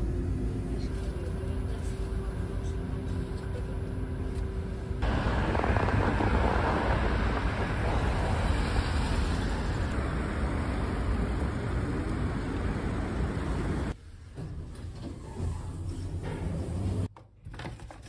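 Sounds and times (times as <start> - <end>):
city street traffic: 0.0 - 14.9
hum inside a train carriage: 0.0 - 17.1.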